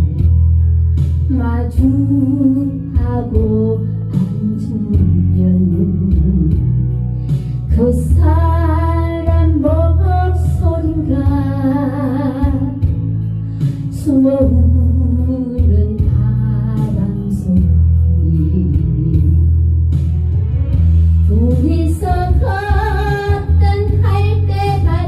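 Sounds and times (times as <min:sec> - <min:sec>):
karaoke backing track: 0:00.0 - 0:25.0
woman singing ballad with vibrato: 0:01.2 - 0:13.3, 0:13.9 - 0:19.7, 0:21.2 - 0:25.0.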